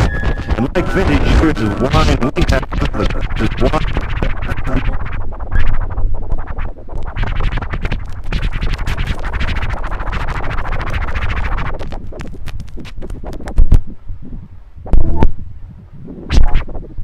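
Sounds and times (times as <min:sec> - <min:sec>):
electronic music bed: 0:00.0 - 0:13.8
vinyl record scratching: 0:00.0 - 0:13.8, 0:16.3 - 0:16.9.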